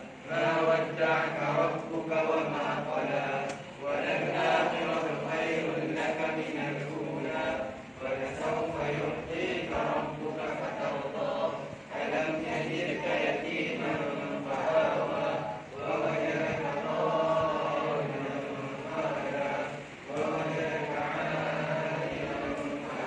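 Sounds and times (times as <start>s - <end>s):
children chanting in unison: 0.0s - 23.0s.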